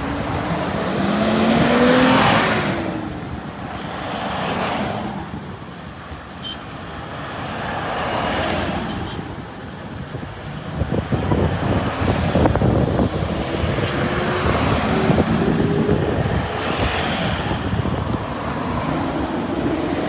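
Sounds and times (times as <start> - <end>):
road vehicles passing: 0.0 - 20.0.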